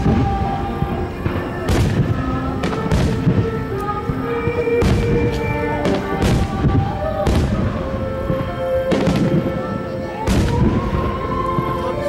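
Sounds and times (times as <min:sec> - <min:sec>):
firework shells booming: 0:00.0 - 0:12.0
song with held notes: 0:00.0 - 0:12.0.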